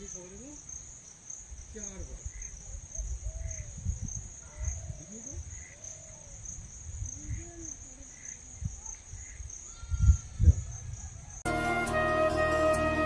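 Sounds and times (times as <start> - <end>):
insects chirring: 0.0 - 11.5.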